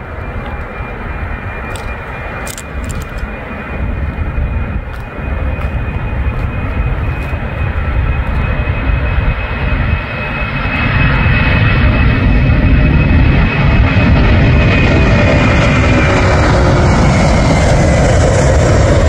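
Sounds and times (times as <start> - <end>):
jet engines roaring at takeoff: 0.0 - 19.0.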